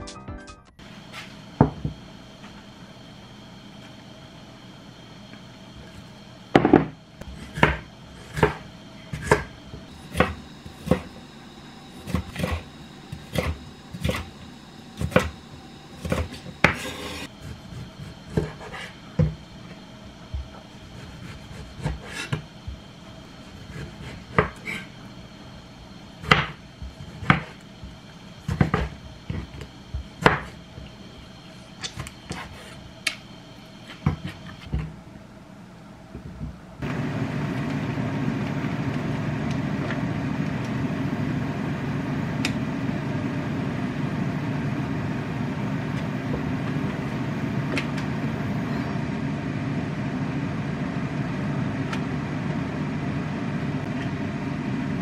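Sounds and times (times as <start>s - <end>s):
low machine hum: 0.7s - 55.0s.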